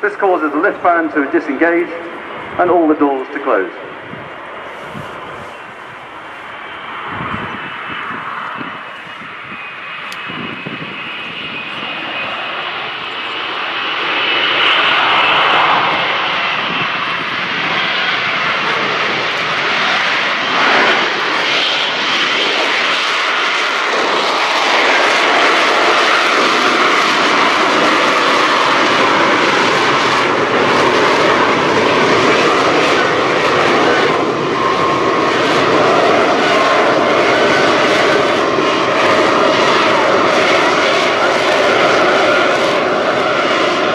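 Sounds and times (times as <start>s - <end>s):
jet engine roaring with whine: 0.0s - 43.9s.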